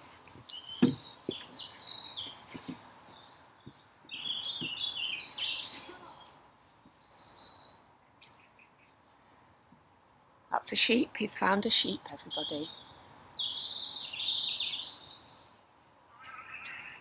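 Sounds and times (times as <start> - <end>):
songbird chirping and twittering: 0.0 - 17.0.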